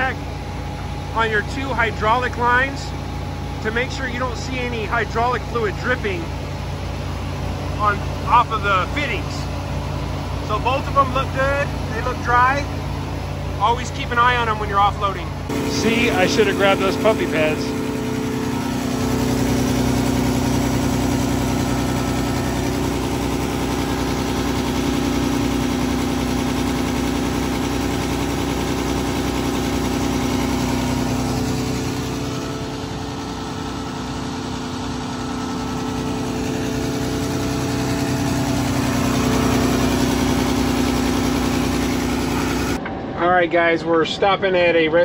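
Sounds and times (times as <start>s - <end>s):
pump machine drone: 0.0s - 42.9s.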